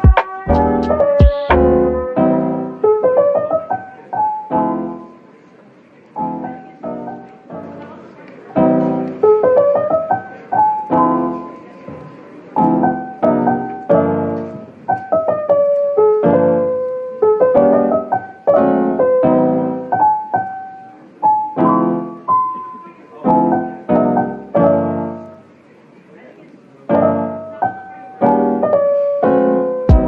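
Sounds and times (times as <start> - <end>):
gentle solo piano: 0.0 - 25.7, 26.4 - 30.0.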